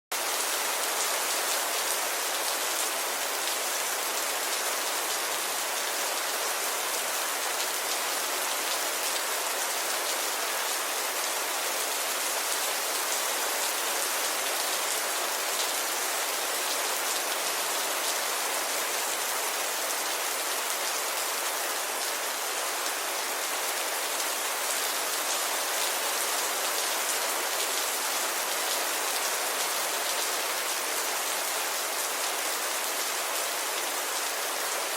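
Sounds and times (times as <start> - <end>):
steady rainfall: 0.1 - 34.9.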